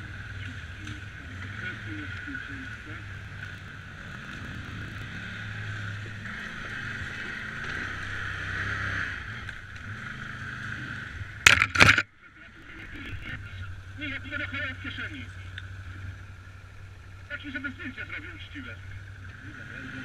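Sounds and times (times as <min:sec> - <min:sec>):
quad engine running: 0:00.0 - 0:20.0.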